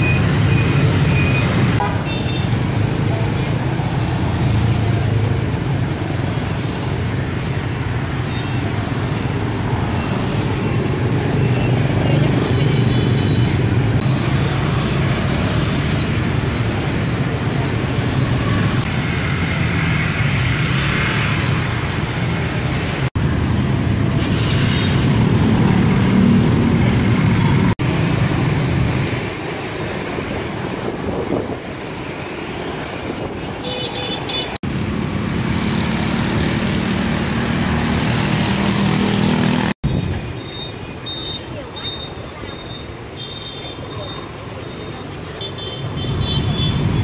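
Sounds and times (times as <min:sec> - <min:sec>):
motorbike street traffic: 0:00.0 - 0:47.0.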